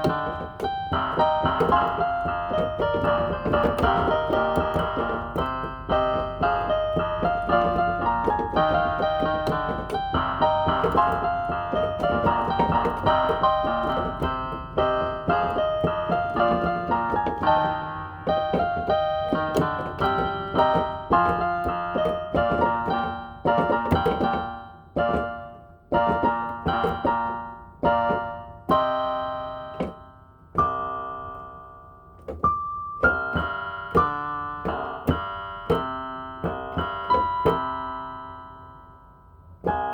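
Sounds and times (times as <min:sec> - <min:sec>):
electronic keyboard piano melody: 0:00.0 - 0:39.9.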